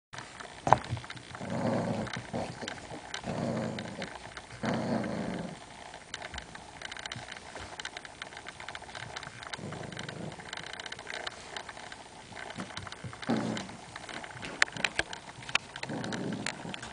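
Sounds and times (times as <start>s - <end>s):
dogs growling: 0.4s - 16.9s.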